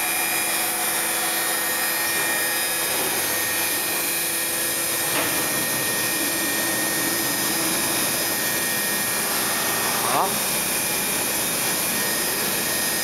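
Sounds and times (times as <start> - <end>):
sanding machines hissing: 1.5 - 13.0.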